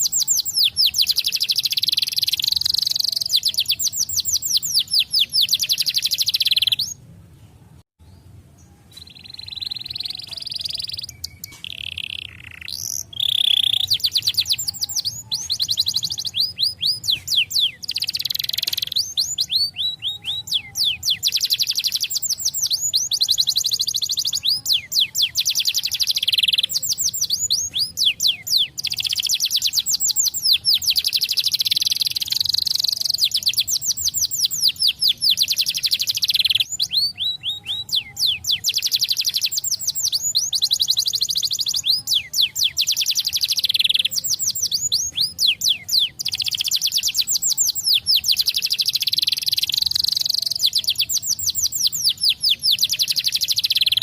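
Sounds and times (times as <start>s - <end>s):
canary singing trills: 0.0s - 7.1s, 8.0s - 54.0s.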